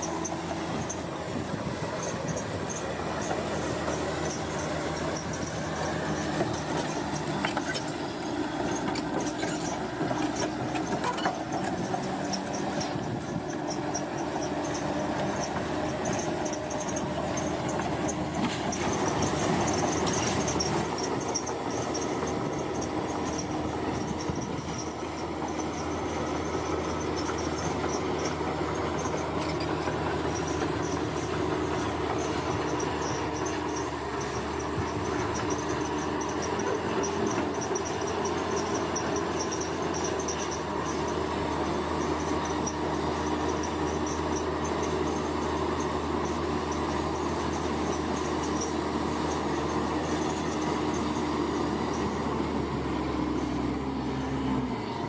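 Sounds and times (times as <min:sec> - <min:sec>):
crawler tracks clicking: 0:00.0 - 0:53.8
bulldozer diesel engine running: 0:00.0 - 0:55.0.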